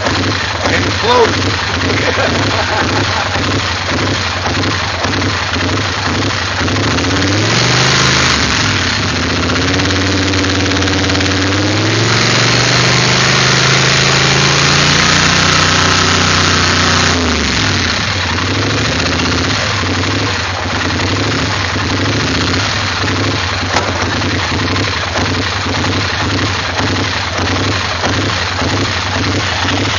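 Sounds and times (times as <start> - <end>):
engine revving and rough idle: 0.0 - 29.9.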